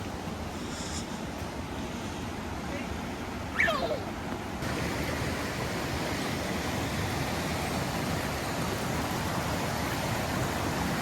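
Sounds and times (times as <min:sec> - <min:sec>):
river rushing over small waterfalls: 0:01.2 - 0:11.0.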